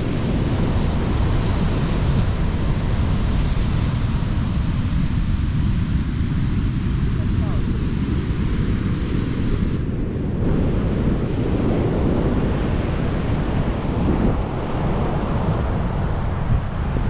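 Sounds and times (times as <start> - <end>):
surf washing on beach: 0.0 - 17.0
wind rumbling on microphone: 0.0 - 17.0.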